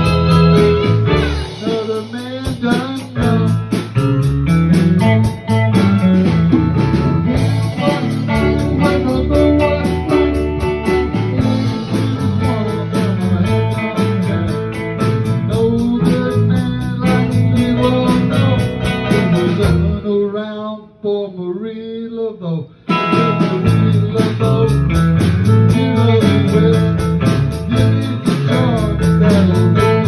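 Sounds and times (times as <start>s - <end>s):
steady drum beat: 0.0s - 19.9s, 22.9s - 30.0s
blues guitar playing: 0.0s - 20.0s, 22.9s - 30.0s.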